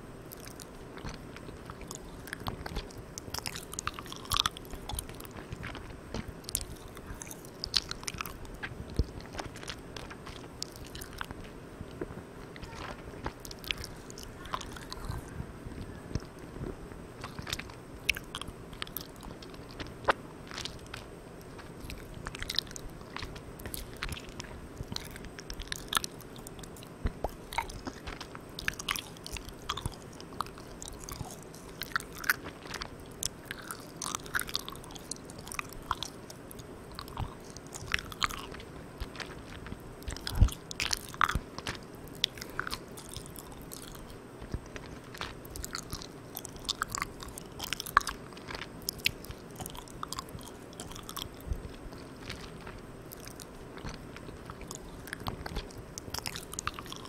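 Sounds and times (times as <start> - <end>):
recorder hiss: 0.0 - 57.0
sticky mouth smacks and clicks: 0.3 - 11.4, 12.0 - 15.3, 17.2 - 57.0.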